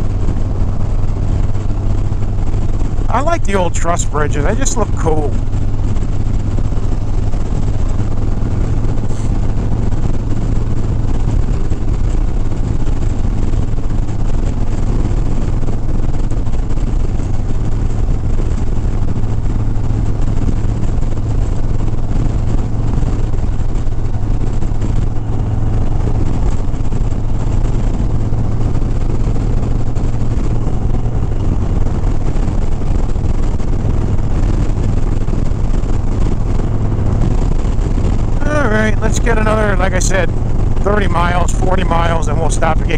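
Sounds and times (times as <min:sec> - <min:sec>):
motorcycle engine cruising: 0:00.0 - 0:42.9
road noise: 0:00.0 - 0:42.9.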